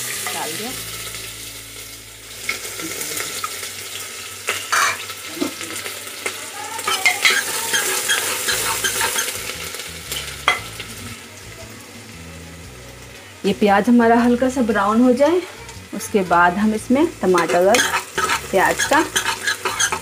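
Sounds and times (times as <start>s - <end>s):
onion sizzling in oil: 0.0s - 20.0s.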